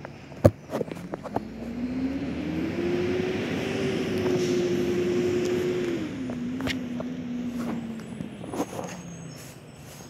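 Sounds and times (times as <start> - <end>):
garbage truck engine revving: 0.6 - 10.0.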